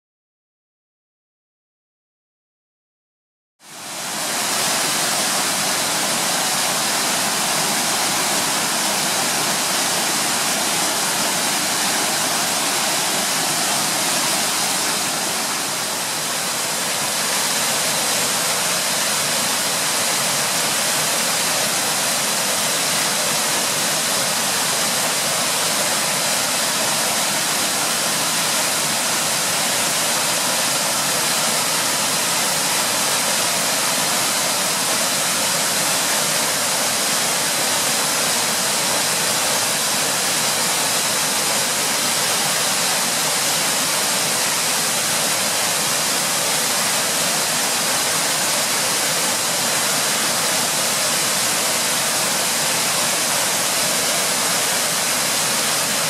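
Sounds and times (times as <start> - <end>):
waterfall rushing: 3.7 - 56.0.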